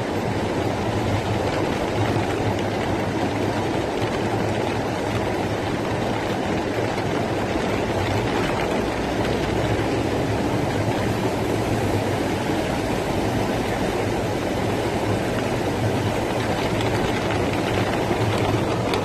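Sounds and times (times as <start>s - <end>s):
rainwater rushing down street: 0.0s - 19.0s.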